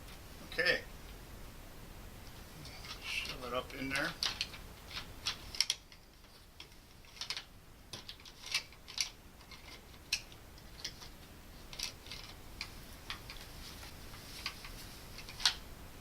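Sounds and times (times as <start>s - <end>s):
light clicks and scrapes of wires: 2.2s - 15.7s.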